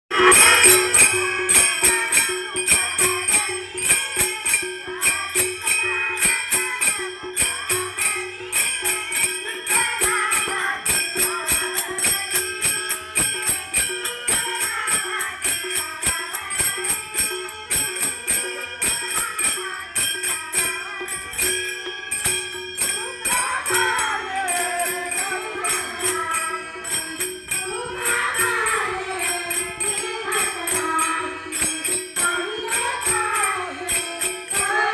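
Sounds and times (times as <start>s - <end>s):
held drone tone: 0.1s - 34.9s
jingling hand percussion: 0.1s - 34.9s
women singing devotional song: 0.1s - 34.9s.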